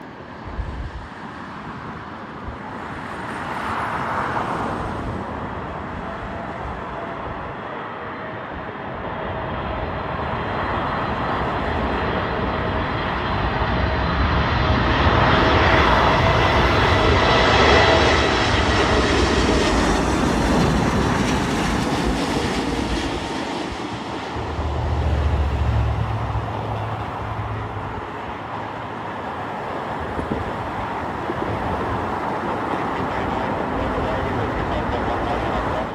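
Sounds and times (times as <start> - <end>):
jet airliner engines: 0.0 - 35.9.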